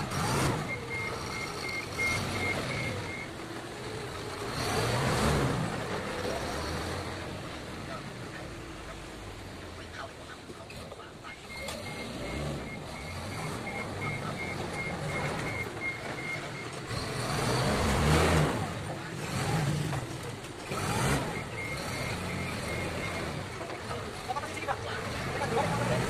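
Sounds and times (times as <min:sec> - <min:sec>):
forklift warning beeper: 0:00.0 - 0:05.1, 0:07.5 - 0:26.0
forklift engine revving: 0:00.0 - 0:26.0.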